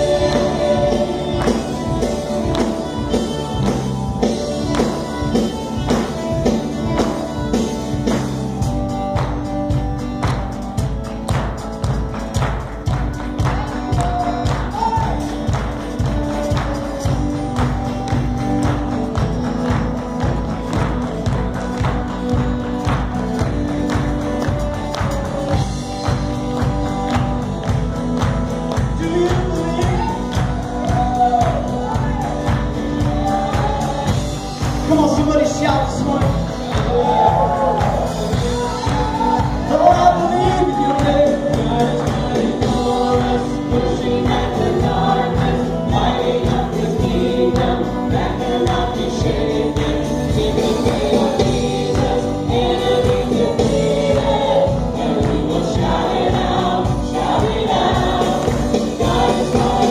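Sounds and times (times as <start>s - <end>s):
people singing melody: 0.0s - 8.4s, 17.8s - 34.7s, 36.6s - 59.9s
worship band playing: 0.0s - 59.9s.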